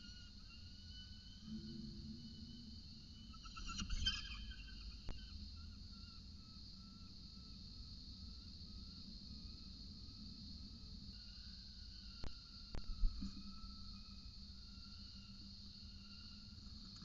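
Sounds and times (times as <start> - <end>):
cicadas droning: 0.0 - 17.0
insect buzz: 0.0 - 17.0.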